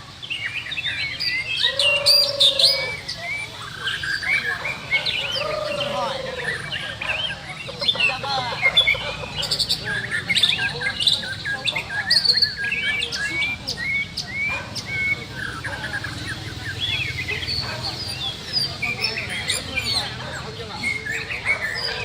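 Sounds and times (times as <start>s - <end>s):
birds singing whistled phrases: 0.0s - 22.0s.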